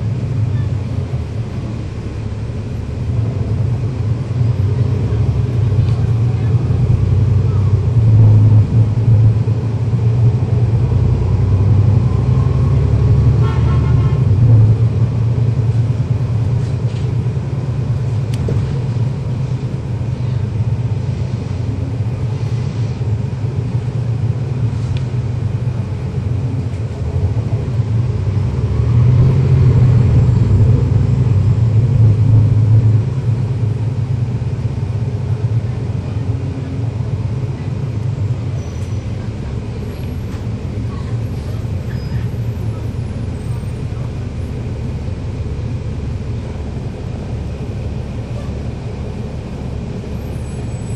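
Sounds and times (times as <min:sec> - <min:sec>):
bus engine rumble: 0:00.0 - 0:50.9
faint transmission whine: 0:00.0 - 0:50.9.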